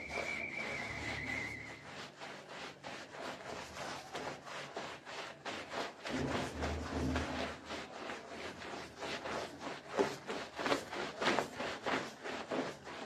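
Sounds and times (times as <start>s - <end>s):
broom scrubbing a wet rug: 0.0s - 13.0s.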